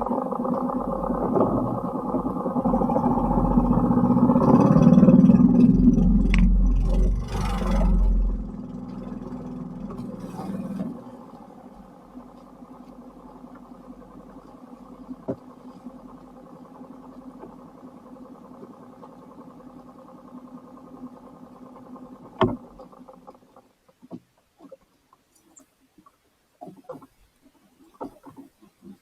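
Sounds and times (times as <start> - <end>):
engine running with low hum: 0.0 - 24.8.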